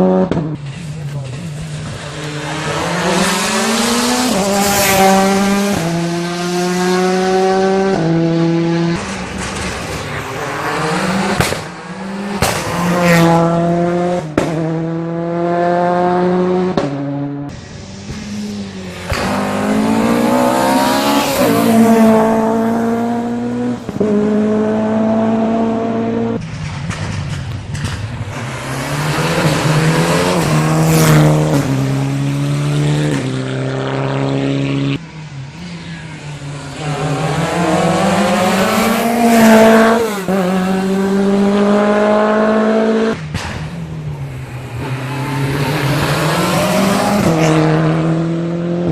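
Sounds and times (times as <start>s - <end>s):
rally car engines at full throttle: 0.0s - 48.9s.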